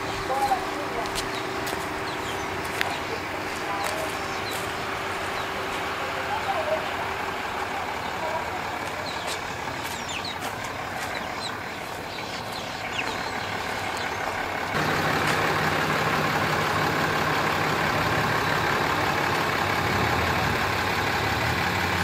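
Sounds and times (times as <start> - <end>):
pickup truck engine hum: 0.0 - 22.0.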